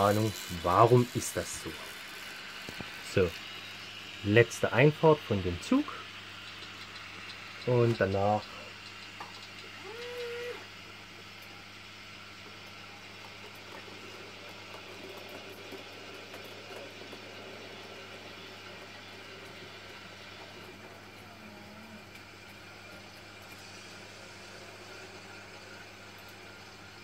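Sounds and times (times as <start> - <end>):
model train running whir: 0.0 - 27.0.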